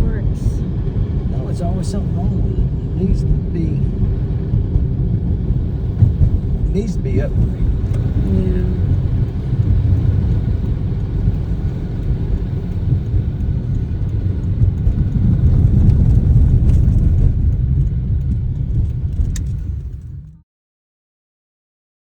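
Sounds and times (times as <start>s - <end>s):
car road rumble: 0.0s - 20.4s.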